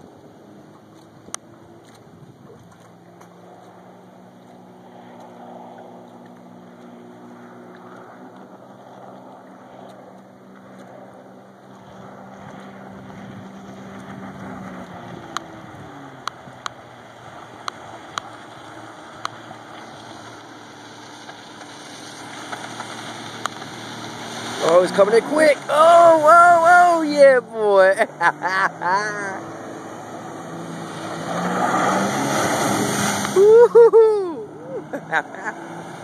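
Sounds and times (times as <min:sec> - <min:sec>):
jet ski engine drone: 0:00.0 - 0:36.0
water noise: 0:00.0 - 0:36.0.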